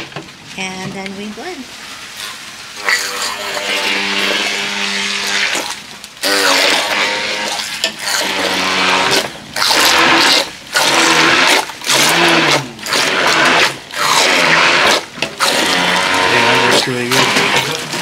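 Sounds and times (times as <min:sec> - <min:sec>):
immersion blender motor whirring: 0:02.8 - 0:18.0.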